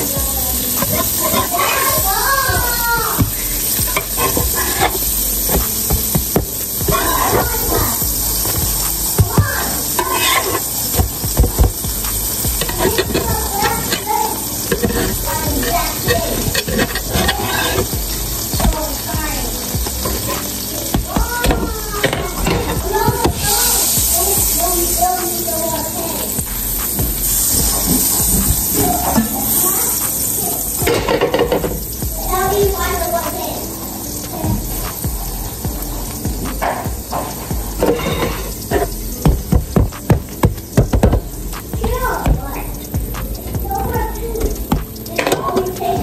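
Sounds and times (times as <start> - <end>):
spatula tapping griddle: 0.0 - 25.4, 26.3 - 33.4, 34.3 - 46.0
pancakes sizzling on griddle: 0.0 - 46.0.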